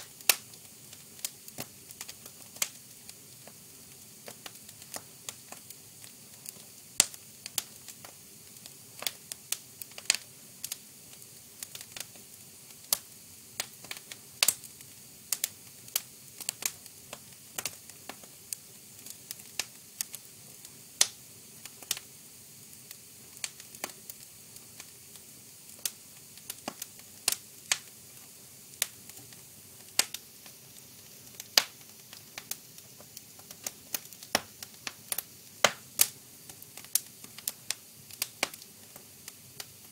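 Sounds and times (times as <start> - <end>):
faint steady hiss: 0.0 - 39.9
fire crackling: 0.0 - 39.9.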